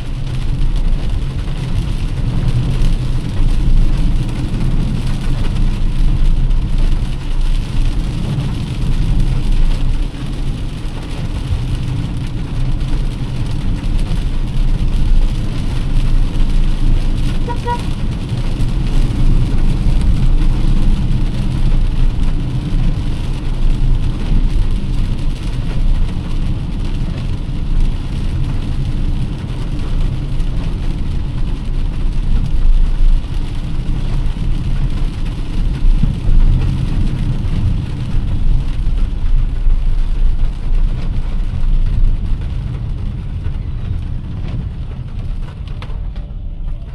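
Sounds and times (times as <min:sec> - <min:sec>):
rain hiss: 0:00.0 - 0:46.9
road and engine rumble: 0:00.0 - 0:46.9.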